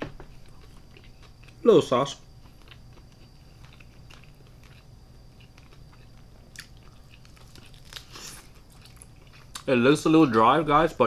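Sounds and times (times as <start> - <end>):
crispy skin being chewed: 0.2 - 10.4.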